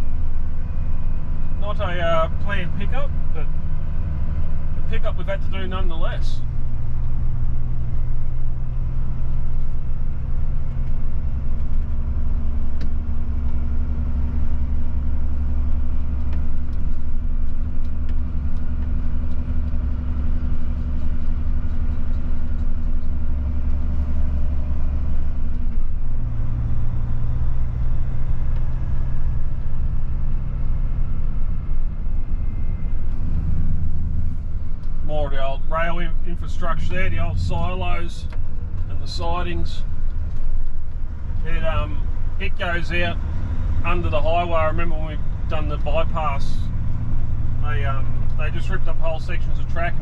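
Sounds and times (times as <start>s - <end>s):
truck diesel engine droning: 0.0s - 50.0s.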